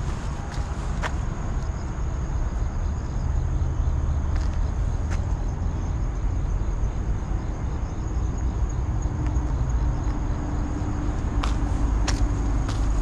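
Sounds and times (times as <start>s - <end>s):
high-pitched insect trill: 0.0s - 13.0s
steady low rumble: 0.0s - 13.0s.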